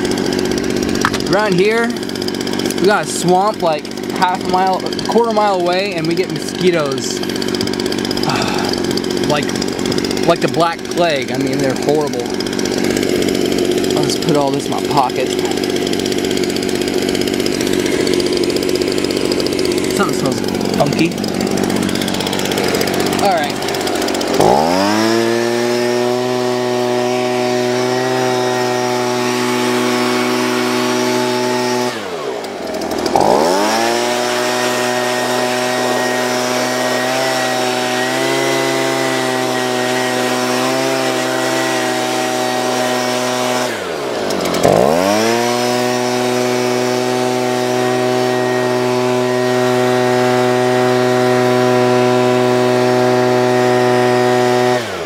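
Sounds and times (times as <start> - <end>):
leaf blower running: 0.0 - 55.0.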